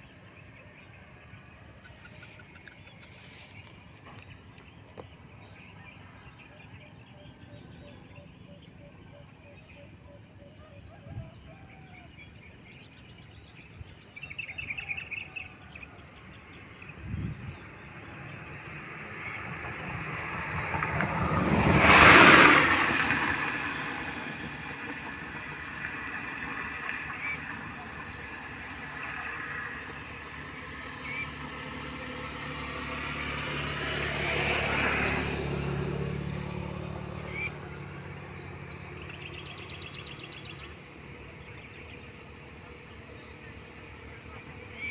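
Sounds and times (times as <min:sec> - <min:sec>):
insects chirring: 0:00.0 - 0:44.9
vehicle passing by: 0:01.1 - 0:08.8, 0:14.6 - 0:44.9.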